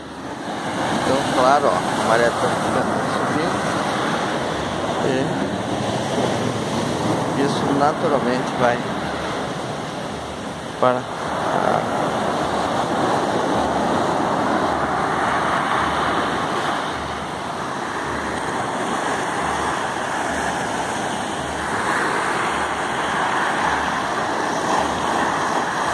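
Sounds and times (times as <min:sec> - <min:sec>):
sea surf breaking on rocks: 0:00.0 - 0:25.9.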